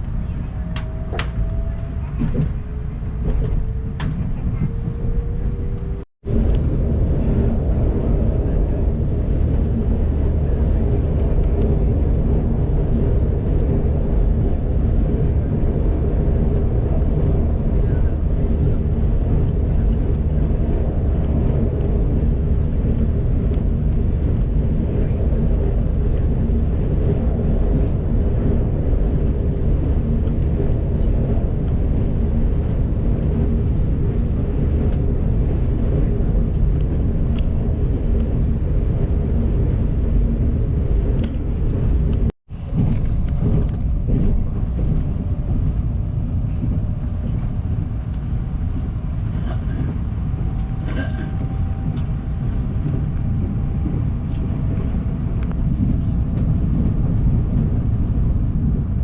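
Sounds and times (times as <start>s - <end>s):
train interior rumble: 0.0s - 59.0s.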